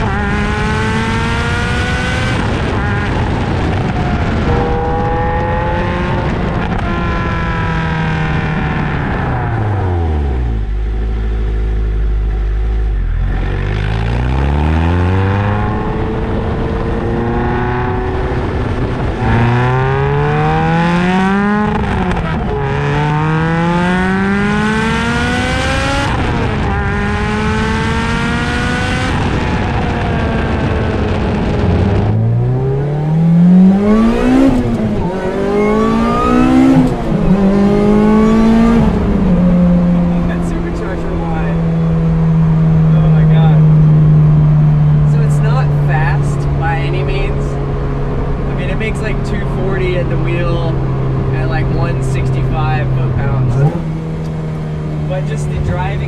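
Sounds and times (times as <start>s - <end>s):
car engine accelerating through gears: 0.0s - 56.0s
engine revving in sharp blips: 0.0s - 56.0s.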